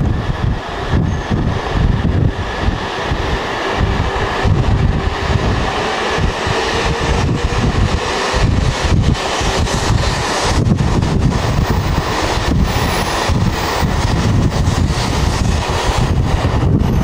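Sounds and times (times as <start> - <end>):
train running rumble: 0.0 - 17.0
wind buffeting microphone: 0.0 - 17.0.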